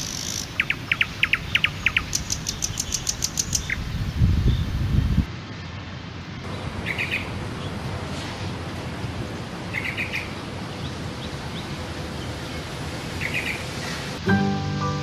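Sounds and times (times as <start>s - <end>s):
songbird chirping: 0.0s - 7.8s, 9.7s - 15.0s
outdoor background noise: 0.0s - 15.0s.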